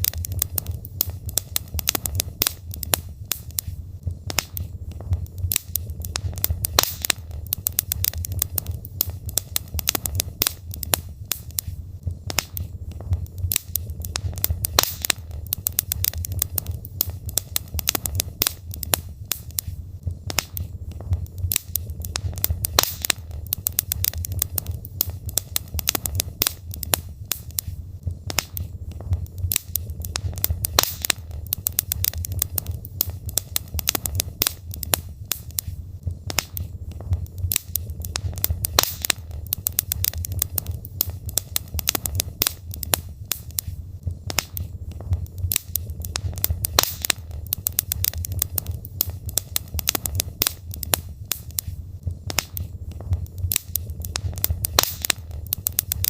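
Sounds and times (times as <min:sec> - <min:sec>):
burning logs popping: 0:00.0 - 0:56.0
low rumble of flames: 0:00.0 - 0:56.0
wood fire crackling: 0:00.0 - 0:56.0.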